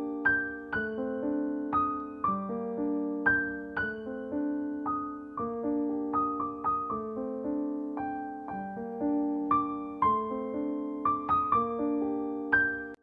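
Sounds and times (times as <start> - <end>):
slow solo piano piece: 0.0 - 13.0.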